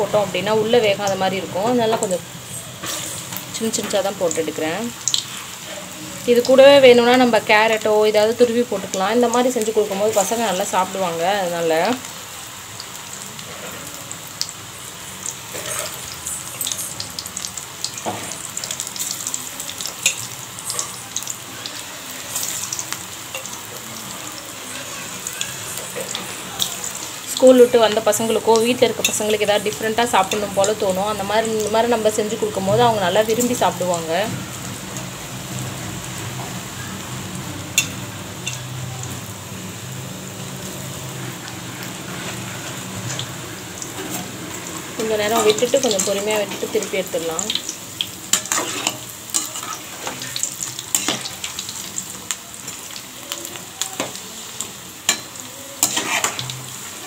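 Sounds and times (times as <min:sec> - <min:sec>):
batter deep-frying in hot oil: 0:00.0 - 0:57.0.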